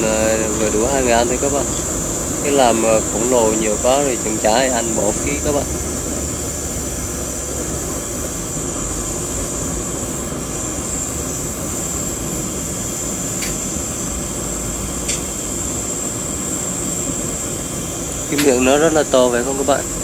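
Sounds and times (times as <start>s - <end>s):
gas burner roaring: 0.0s - 20.0s
insect buzzing: 0.0s - 20.0s.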